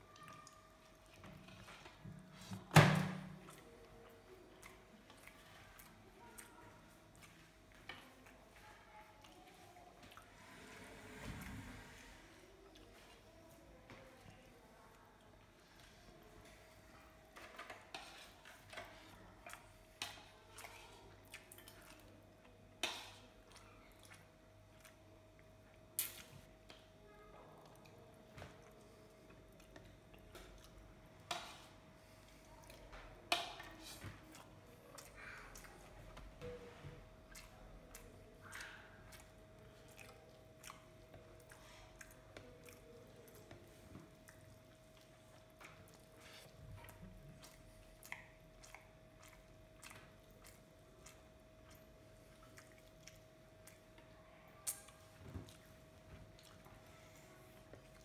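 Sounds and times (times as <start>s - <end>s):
soft chewing: 0.0s - 2.7s, 3.3s - 58.0s.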